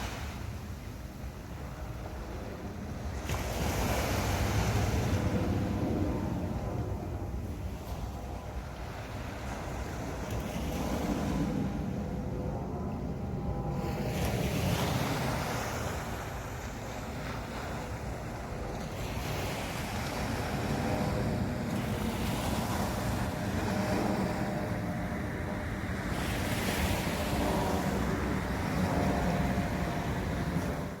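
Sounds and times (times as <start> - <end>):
waves breaking on sandy beach: 0.0 - 31.0.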